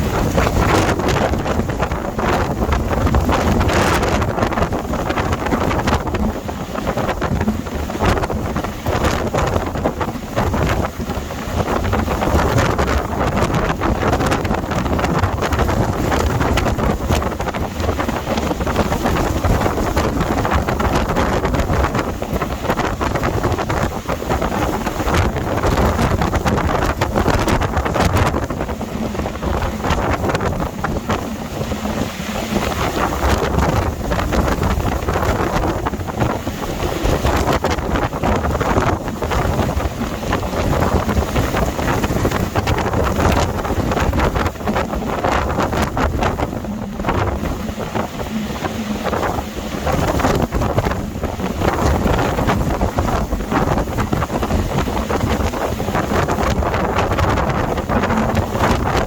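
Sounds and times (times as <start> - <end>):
strong wind roaring: 0.0 - 59.0
wind knocking on microphone: 0.0 - 59.0.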